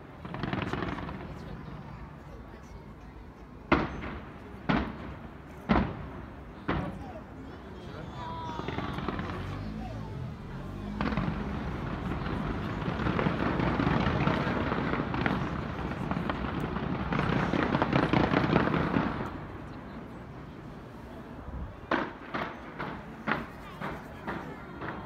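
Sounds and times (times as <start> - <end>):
firework bangs: 0.0 - 1.9, 3.7 - 20.2, 21.8 - 25.0
fireworks bursts and crackling: 0.0 - 25.0.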